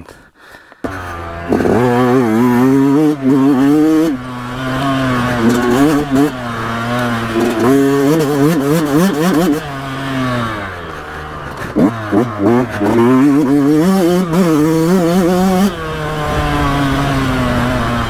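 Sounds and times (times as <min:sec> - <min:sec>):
two-stroke motorcycle engine revving: 0:00.8 - 0:18.0.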